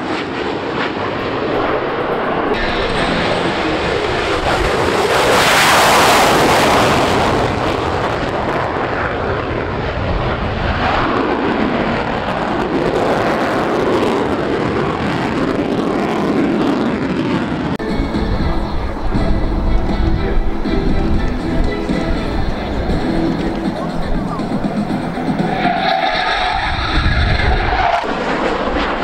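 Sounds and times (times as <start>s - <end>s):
military jet flying past: 0.0s - 29.0s.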